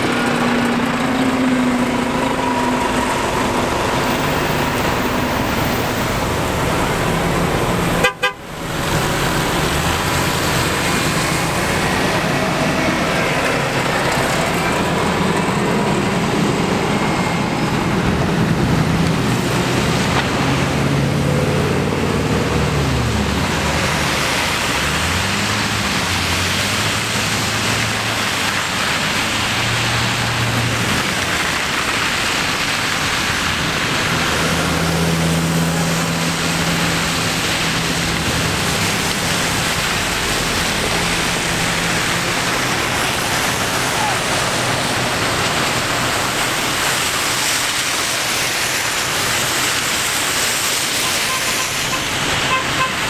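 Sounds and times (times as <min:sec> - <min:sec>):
bus diesel engine shifting gears: 0:00.0 - 0:50.8
engine droning: 0:00.0 - 0:53.0
tyres hissing on wet pavement: 0:00.0 - 0:53.0.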